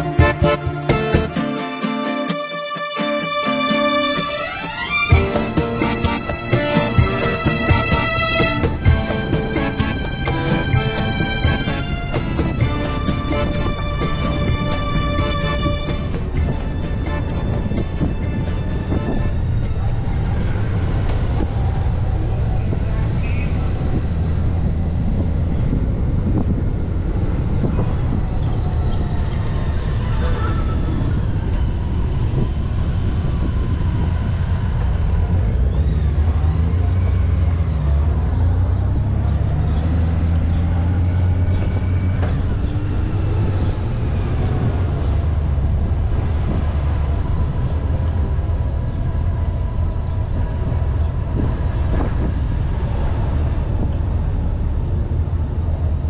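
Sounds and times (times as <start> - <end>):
motorcycle engine and road rumble: 5.1 - 56.0.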